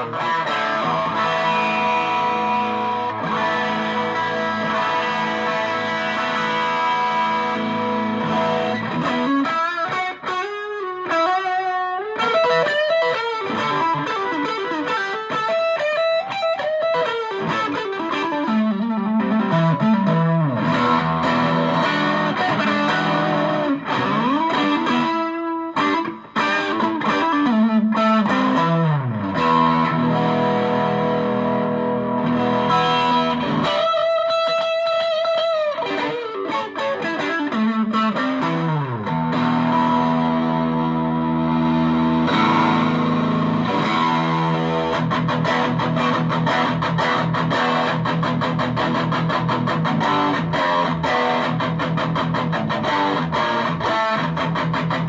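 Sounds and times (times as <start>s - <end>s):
distorted electric guitar riffs: 0.0s - 55.0s.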